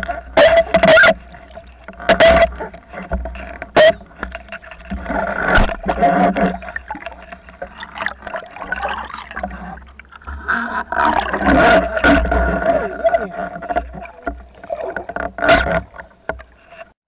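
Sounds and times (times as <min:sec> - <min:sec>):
clicks underwater: 0:00.0 - 0:17.0
water swirling and crackling: 0:00.0 - 0:17.0.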